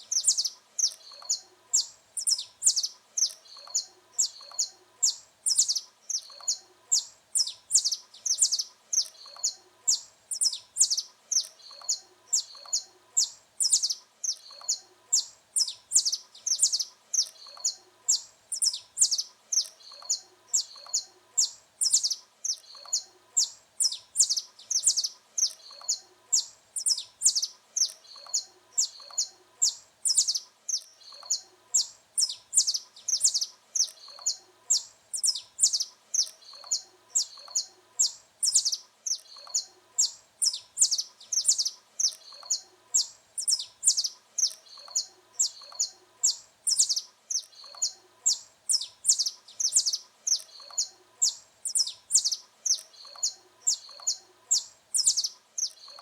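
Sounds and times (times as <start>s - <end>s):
finch chirping: 0.0s - 56.0s.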